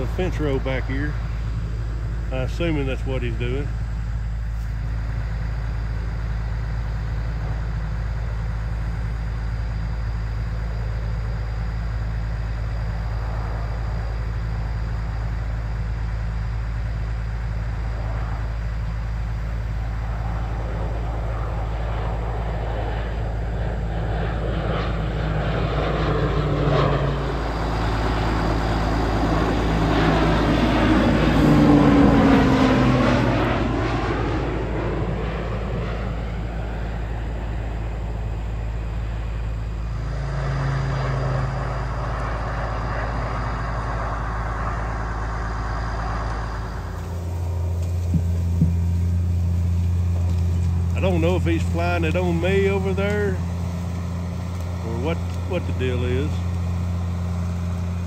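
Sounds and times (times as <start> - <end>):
propeller airplane passing overhead: 0.0 - 58.0
steady low hum: 0.0 - 58.0.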